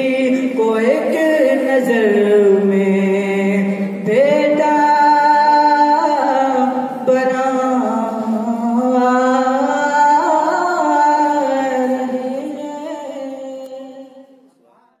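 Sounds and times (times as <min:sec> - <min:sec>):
person singing long held notes: 0:00.0 - 0:14.4.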